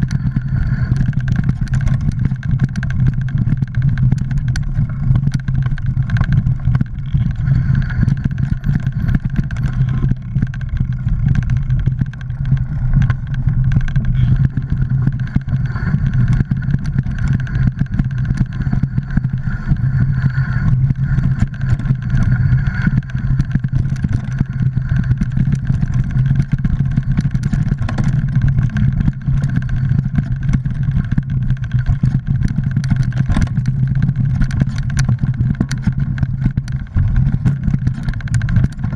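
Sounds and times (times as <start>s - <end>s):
bike knocks and rattles: 0.0s - 38.9s
mountain bike rumbling over rocks: 0.0s - 38.9s.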